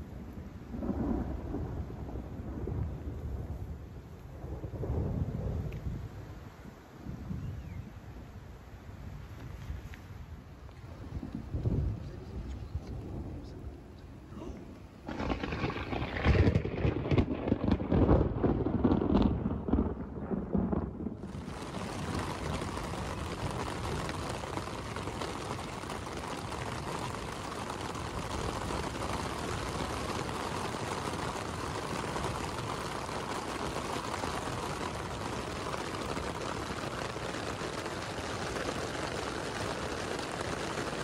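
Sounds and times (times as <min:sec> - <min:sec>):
heavy rain on tent: 0:00.0 - 0:41.0
wind: 0:00.0 - 0:41.0.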